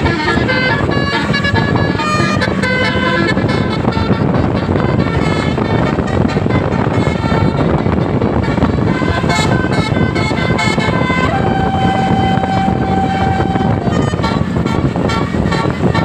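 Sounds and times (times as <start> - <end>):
musical bus horn tune: 0.0 - 16.0
vehicle rumble: 0.0 - 16.0.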